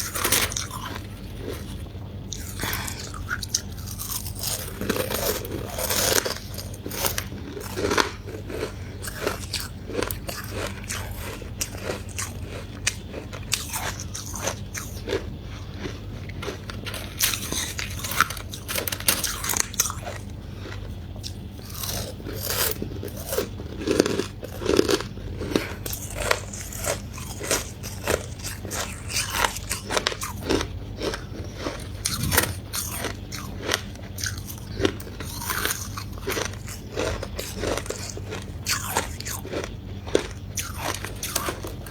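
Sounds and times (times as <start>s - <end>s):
chewing ice crunches: 0.0s - 41.9s.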